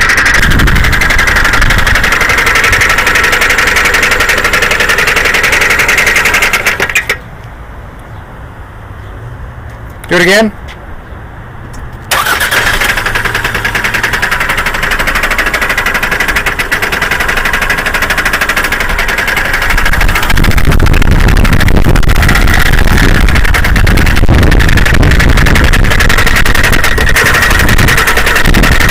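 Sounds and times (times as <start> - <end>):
car engine starting and knocking: 0.0 - 7.5, 12.0 - 28.9.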